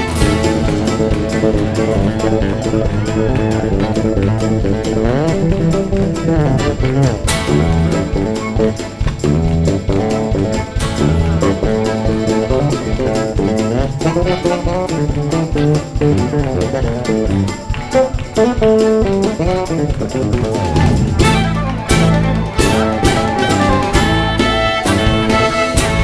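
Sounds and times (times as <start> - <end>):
plucked guitar with bass line: 0.0 - 26.0.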